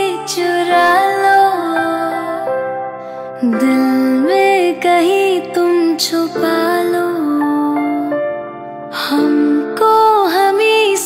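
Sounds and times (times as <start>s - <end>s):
woman singing pop song: 0.0s - 11.0s.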